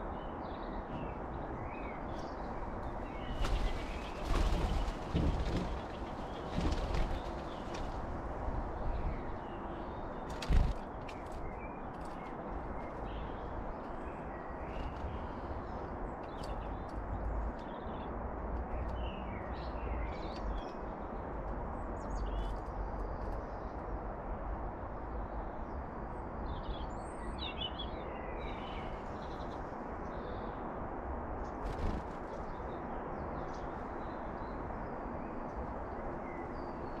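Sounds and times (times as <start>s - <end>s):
songbird chirps: 0.0s - 24.1s, 25.2s - 30.7s, 31.4s - 37.0s.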